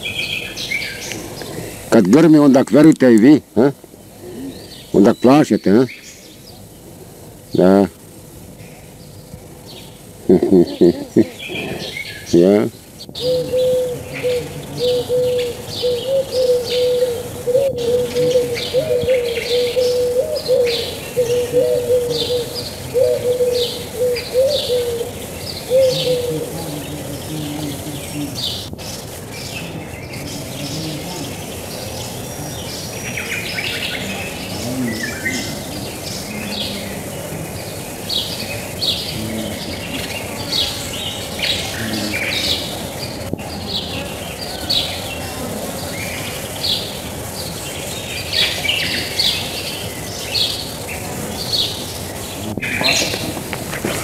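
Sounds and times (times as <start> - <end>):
dove cooing: 0.0 - 8.1, 9.4 - 54.0
birds chirping: 0.0 - 54.0.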